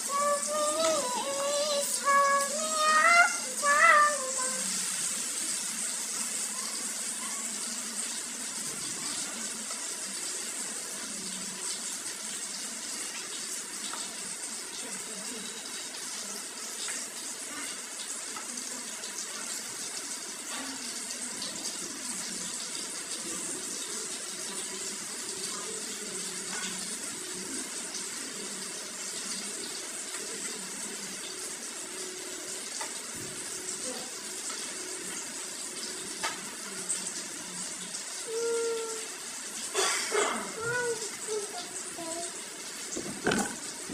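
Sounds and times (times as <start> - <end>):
hot oil sizzling in wok: 0.0 - 39.8.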